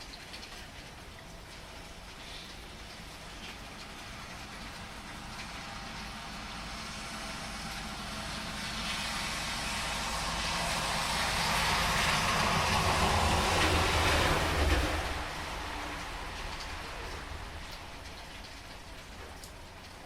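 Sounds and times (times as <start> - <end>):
car tyres hissing on wet road: 0.0 - 20.0
steady rain: 0.0 - 20.0.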